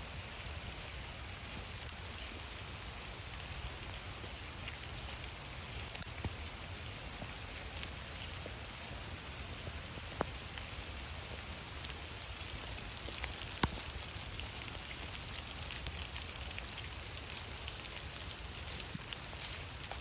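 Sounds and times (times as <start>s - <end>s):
rain pattering in forest: 0.0s - 20.0s.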